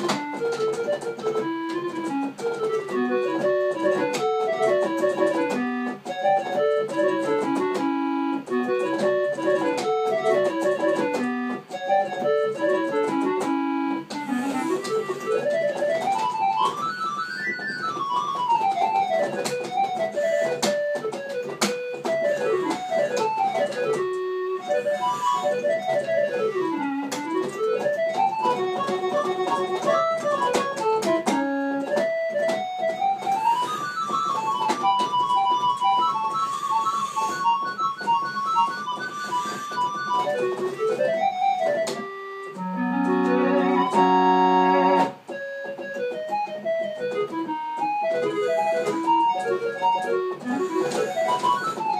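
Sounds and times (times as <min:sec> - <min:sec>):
electronic keyboard rock melody: 0:00.0 - 0:51.9.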